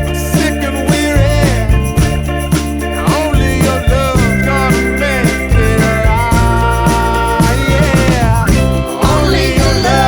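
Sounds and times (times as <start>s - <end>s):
pop song with beat and bass: 0.0s - 10.0s.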